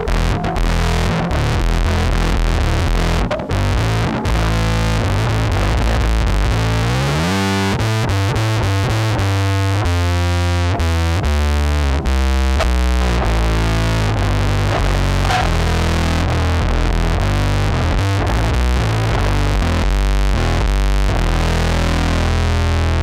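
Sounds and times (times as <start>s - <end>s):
distorted fuzz guitar notes: 0.0s - 23.0s.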